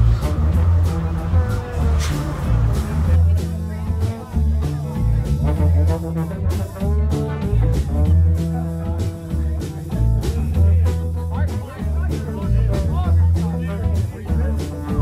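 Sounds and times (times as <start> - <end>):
prominent bass line: 0.0 - 15.0.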